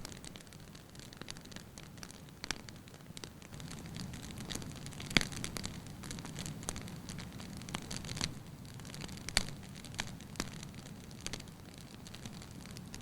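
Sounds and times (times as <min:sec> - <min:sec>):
logs crackling and popping: 0:00.0 - 0:13.0
fire hissing: 0:00.2 - 0:13.0.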